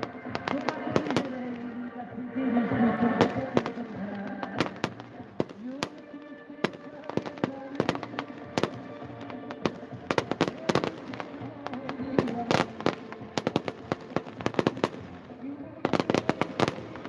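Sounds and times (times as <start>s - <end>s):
fireworks bangs and crackles: 0.0s - 1.9s, 2.5s - 17.0s
music with held notes: 0.0s - 17.0s.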